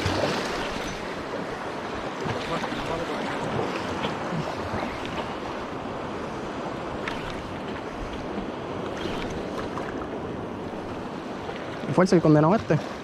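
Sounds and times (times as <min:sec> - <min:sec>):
sea waves on rocky shore: 0:00.0 - 0:13.0.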